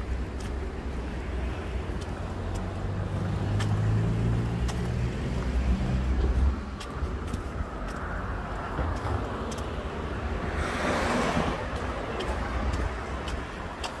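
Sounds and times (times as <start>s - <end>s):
car tyre noise passing: 0.0s - 14.0s.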